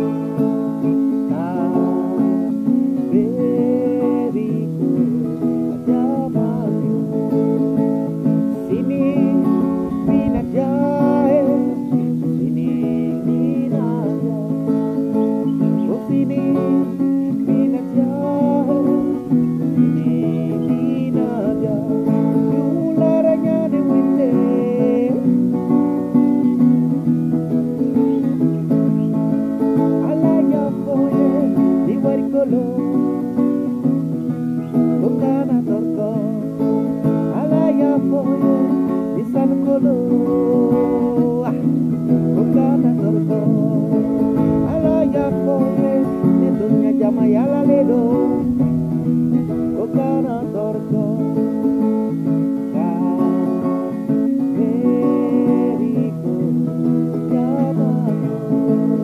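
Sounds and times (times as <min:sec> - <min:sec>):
acoustic guitar strumming: 0:00.0 - 0:59.0
man singing: 0:00.0 - 0:59.0.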